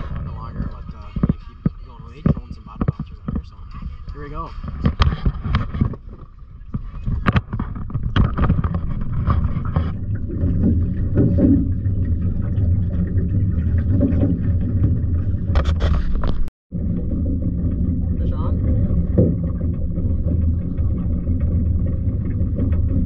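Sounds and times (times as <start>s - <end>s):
outboard motor drone: 0.0s - 23.0s.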